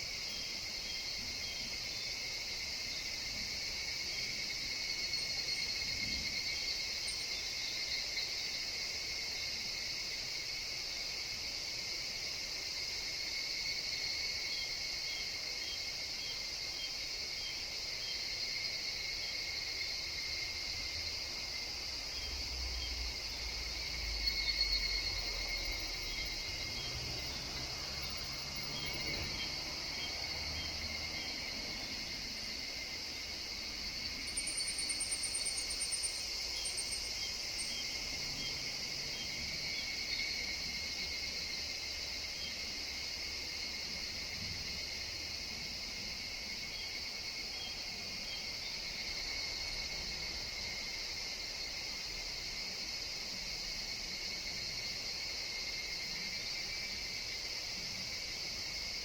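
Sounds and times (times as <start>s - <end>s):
cicadas and insects calling: 0.0s - 59.0s.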